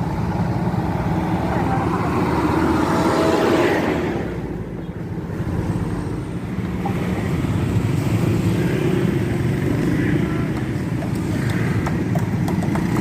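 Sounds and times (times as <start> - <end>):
engine noise: 0.0 - 13.0
vehicle passing by: 0.6 - 11.8.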